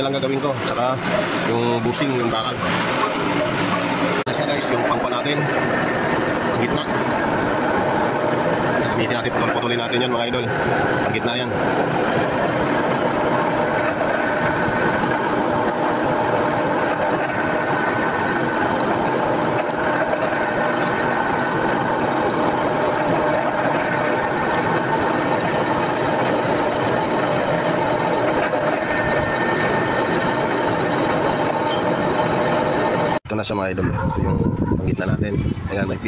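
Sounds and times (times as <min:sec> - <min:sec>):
power tool cutting metal: 0:00.0 - 0:33.2.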